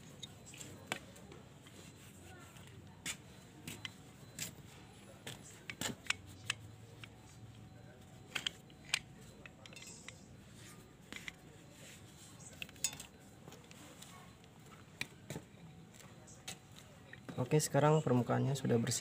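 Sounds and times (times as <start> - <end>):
light clicks and knocks of handling: 0.1 - 17.5.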